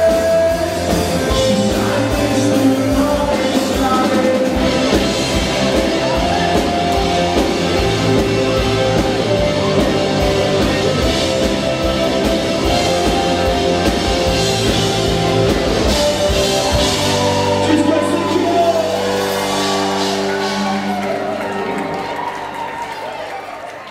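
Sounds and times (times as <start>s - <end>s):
driving drum beat: 0.0s - 21.1s
live rock band playing: 0.0s - 23.3s
electric guitars: 0.0s - 23.4s.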